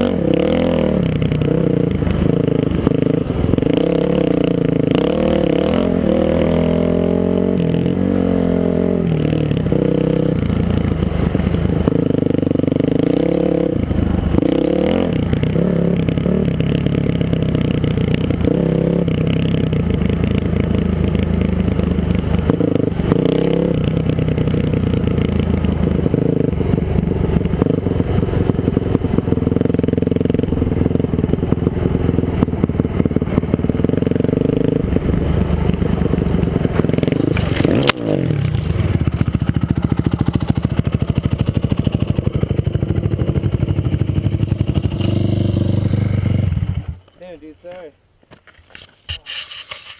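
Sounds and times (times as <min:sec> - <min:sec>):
dirt bike engine revving: 0:00.0 - 0:47.5.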